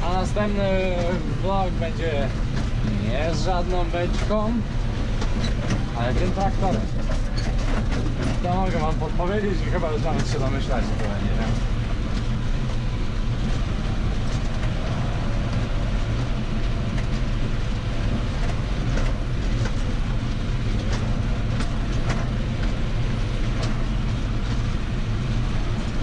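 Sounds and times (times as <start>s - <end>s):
knocks and rattles over cobbles: 0.0s - 26.0s
tractor engine hum: 0.0s - 26.0s.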